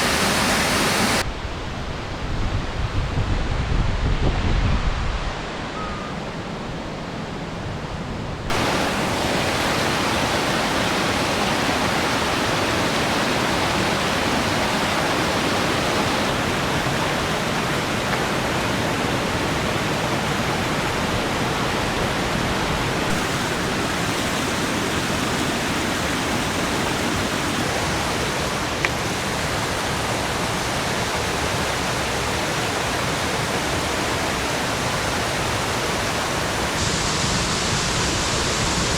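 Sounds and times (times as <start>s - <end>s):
mountain stream rushing: 0.0s - 2.6s, 8.5s - 38.9s.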